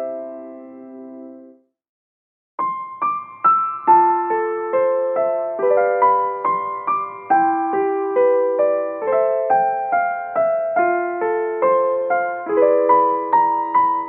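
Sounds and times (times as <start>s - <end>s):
slow solo piano: 0.0s - 1.6s, 2.6s - 14.0s.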